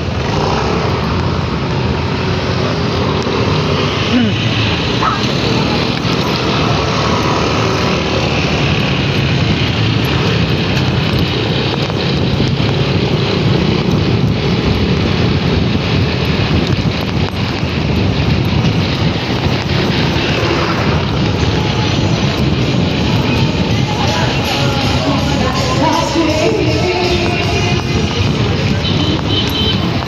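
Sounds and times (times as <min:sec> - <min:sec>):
moving vehicle on road: 0:00.0 - 0:30.0
wind rushing over microphone: 0:00.0 - 0:30.0.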